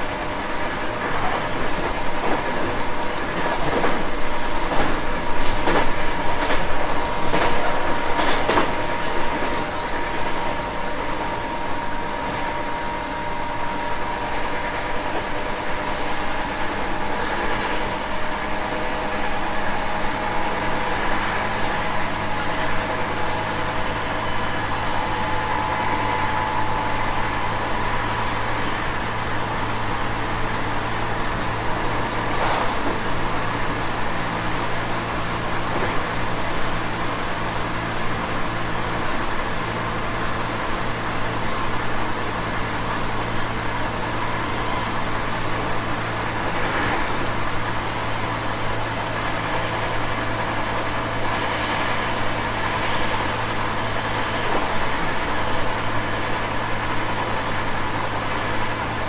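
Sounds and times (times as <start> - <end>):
electric train whine: 0.0 - 59.0
train rolling noise: 0.0 - 59.0
wheels clicking over rail joints: 0.0 - 59.0.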